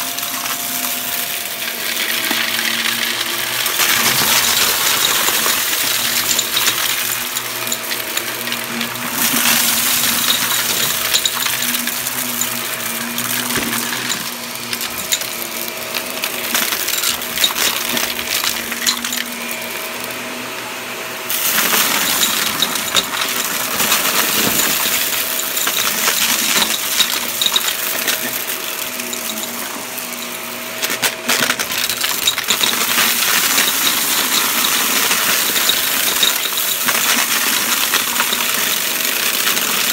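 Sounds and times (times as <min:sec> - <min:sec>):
vacuum cleaner motor hum: 0:00.0 - 0:39.9
debris crackling and rattling: 0:00.1 - 0:19.6, 0:21.3 - 0:39.9.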